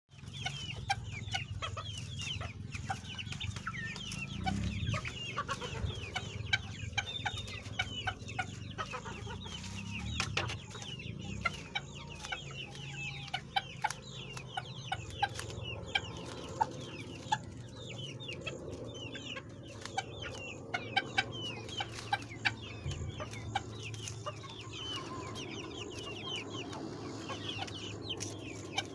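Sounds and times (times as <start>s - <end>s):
chickens clucking and calling: 0.1s - 28.9s.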